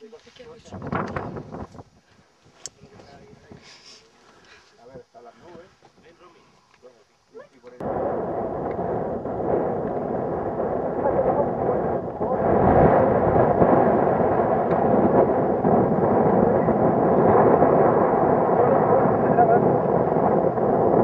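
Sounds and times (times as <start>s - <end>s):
wind buffeting microphone: 0.0s - 3.6s, 7.8s - 21.0s.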